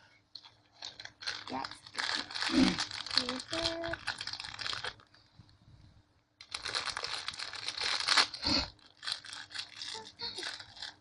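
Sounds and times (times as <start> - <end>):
packaging crinkling and rustling: 0.4 - 5.2, 6.4 - 11.0.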